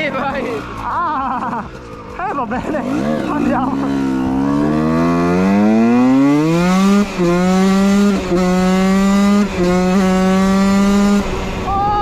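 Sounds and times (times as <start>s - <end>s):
two-stroke engine revving high: 0.0s - 11.7s.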